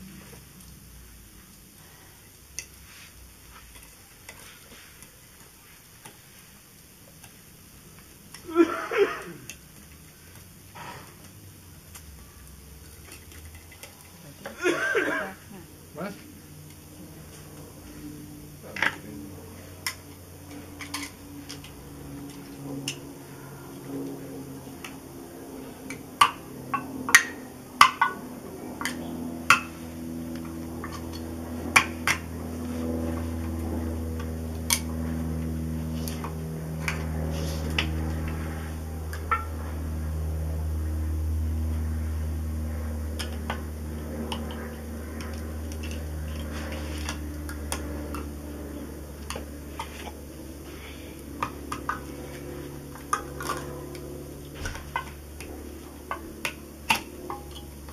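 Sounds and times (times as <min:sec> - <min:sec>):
low hum: 0:07.5 - 0:57.9.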